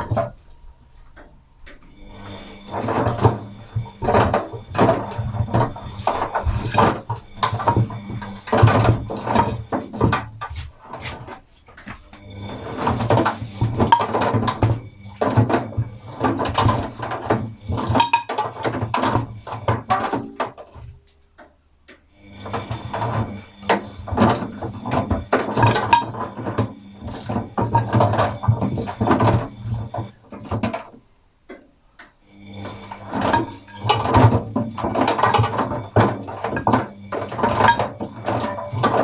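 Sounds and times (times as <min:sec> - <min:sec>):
rollers and brushes clattering: 0:00.0 - 0:01.4, 0:02.1 - 0:21.0, 0:22.4 - 0:31.0, 0:32.6 - 0:39.0
washing machine motor humming: 0:00.0 - 0:39.0.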